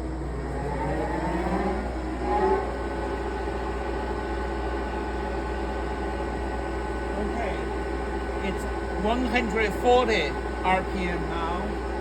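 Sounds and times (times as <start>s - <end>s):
lathe motor whining: 0.0s - 12.0s.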